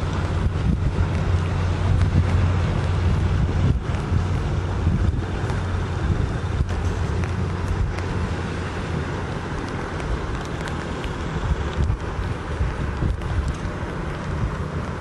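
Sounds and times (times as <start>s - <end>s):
motor boat engine drone: 0.0s - 15.0s
wind buffeting microphone: 0.0s - 15.0s.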